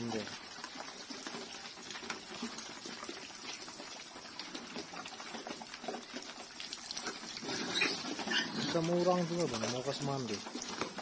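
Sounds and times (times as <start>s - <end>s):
pigs slurping and chewing: 0.0s - 11.0s.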